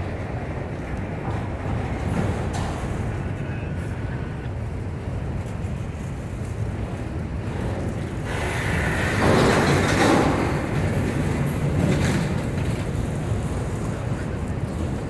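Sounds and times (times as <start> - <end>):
freight cars rolling past: 0.0 - 15.0.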